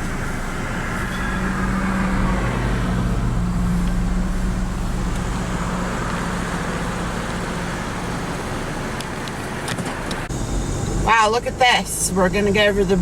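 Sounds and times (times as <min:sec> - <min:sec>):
car engine hum: 0:00.0 - 0:13.0
road and tyre noise: 0:00.0 - 0:13.0.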